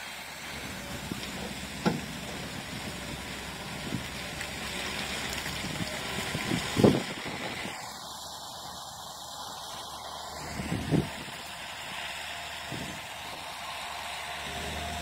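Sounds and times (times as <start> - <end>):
truck rushing noise: 0.0 - 15.0.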